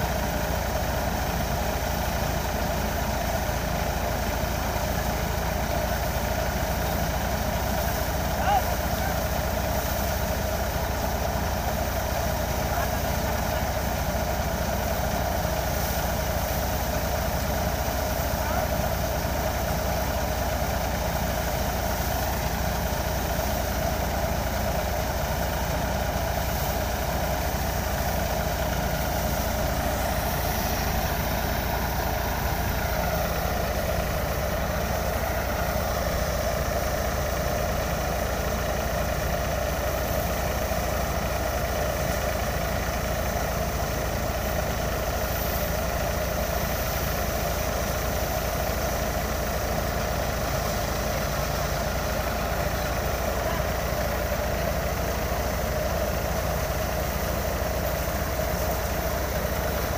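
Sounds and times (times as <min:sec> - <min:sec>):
tractor engine and thresher drone: 0:00.0 - 0:59.9.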